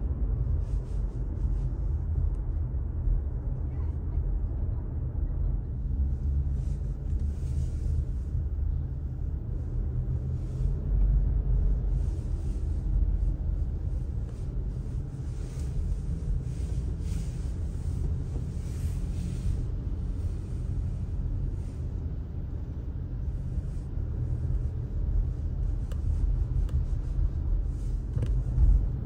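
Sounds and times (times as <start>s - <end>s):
car driving rumble: 0.0s - 29.0s.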